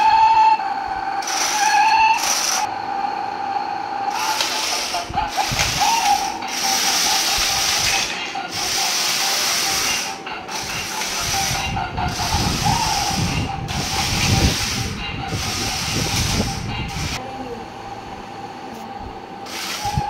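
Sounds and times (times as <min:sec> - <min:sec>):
electric motors whirring: 0:00.0 - 0:17.3, 0:17.9 - 0:20.0
wheels rumbling on tiles: 0:00.0 - 0:18.0, 0:18.6 - 0:20.0.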